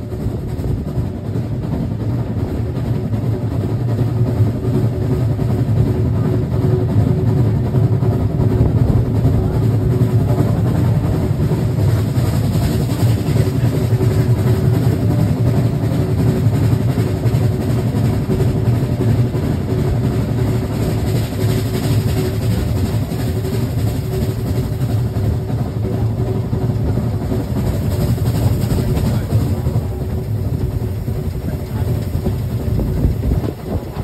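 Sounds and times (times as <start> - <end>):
train wheels rumbling on track: 0.0 - 34.0.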